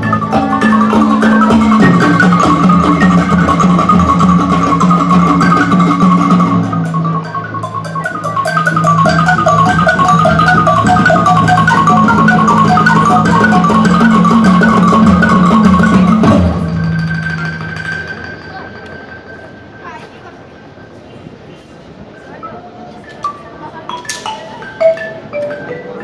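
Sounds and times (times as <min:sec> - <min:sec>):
marimba ensemble playing: 0:00.0 - 0:26.0.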